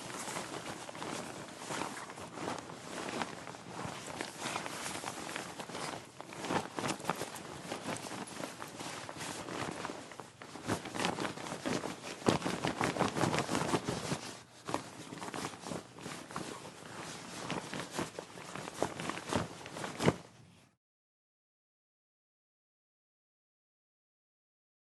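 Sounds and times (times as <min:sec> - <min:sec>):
coat fabric rustling: 0:00.0 - 0:20.8.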